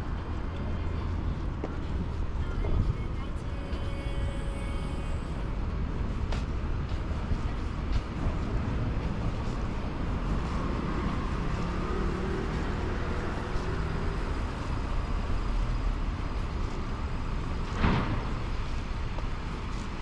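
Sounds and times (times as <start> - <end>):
passing vehicles rumble: 0.0 - 20.0
engine hum going by: 3.6 - 20.0.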